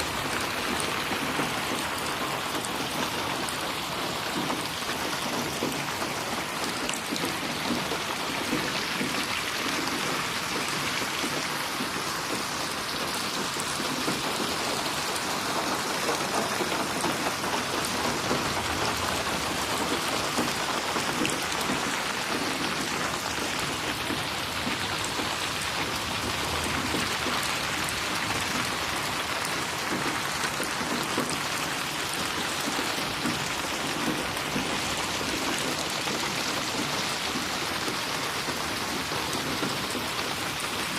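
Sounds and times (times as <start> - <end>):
rain splashing on a surface: 0.0 - 40.9.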